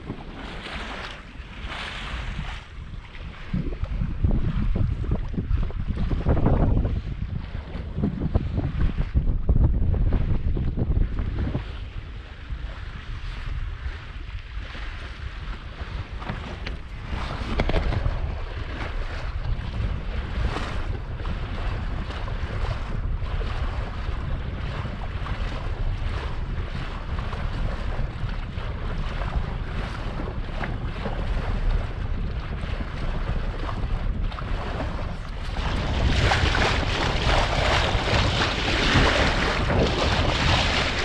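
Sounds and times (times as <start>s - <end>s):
water rushing along boat hull: 0.0s - 41.0s
wind buffeting microphone: 0.0s - 41.0s.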